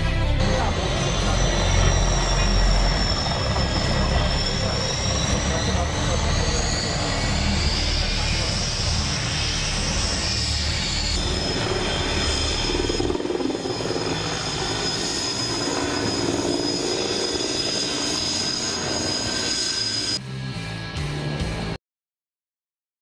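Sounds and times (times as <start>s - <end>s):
aircraft engines droning: 0.0s - 21.8s.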